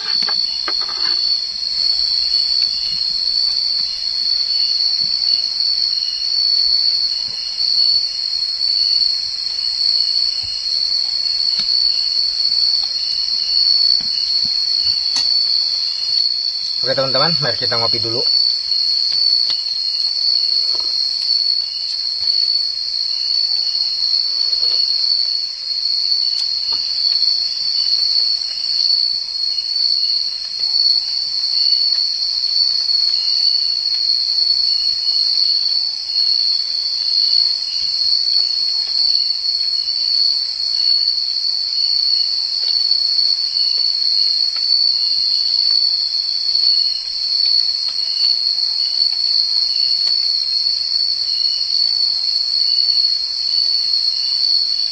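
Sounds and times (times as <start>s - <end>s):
shrill high insect trill: 0.0s - 54.9s.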